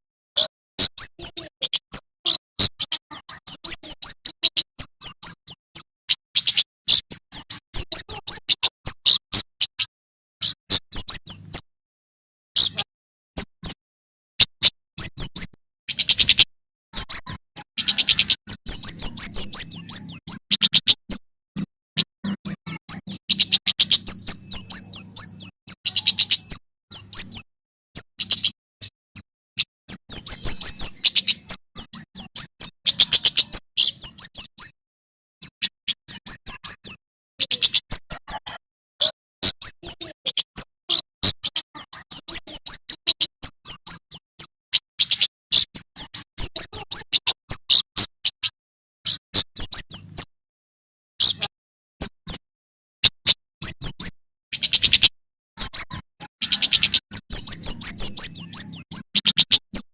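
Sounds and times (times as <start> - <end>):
bird singing rapid high chirps: 0.3 - 11.7, 12.5 - 13.8, 14.4 - 34.8, 35.4 - 50.4, 51.2 - 59.9.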